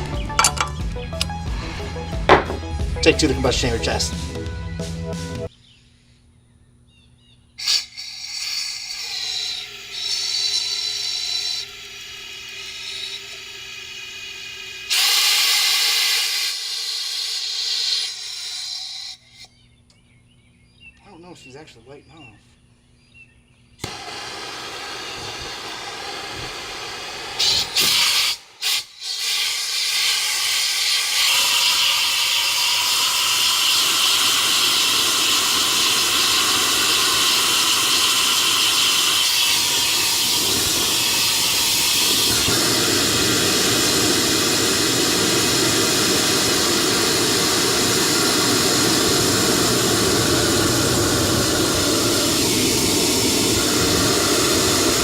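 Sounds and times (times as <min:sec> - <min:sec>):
hissing rush of gas burner: 0:01.2 - 0:04.1, 0:07.6 - 0:18.8, 0:23.8 - 0:55.0.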